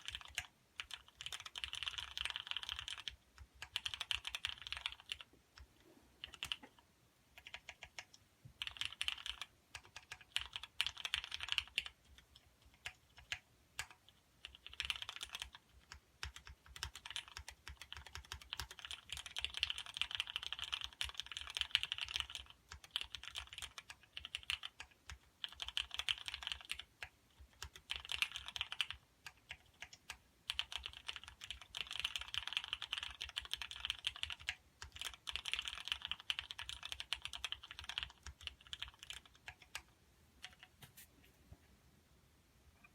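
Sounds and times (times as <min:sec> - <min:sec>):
mechanical keyboard typing: 0:00.0 - 0:40.8.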